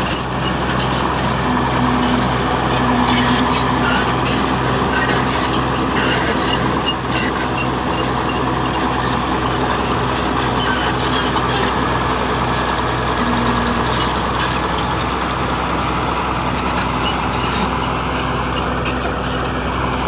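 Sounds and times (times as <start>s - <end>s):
bulldozer diesel engine running: 0.0s - 20.0s
machine squeaks and clinks: 0.0s - 20.0s.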